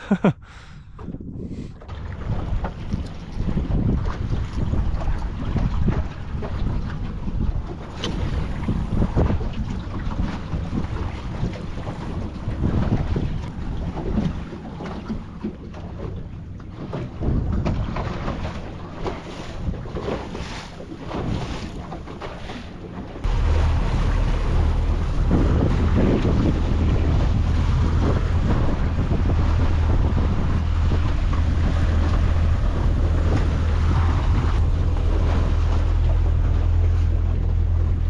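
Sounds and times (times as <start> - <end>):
motorboat engine hum: 0.0 - 38.0
water noise: 0.0 - 38.0
wind on microphone: 0.4 - 38.0.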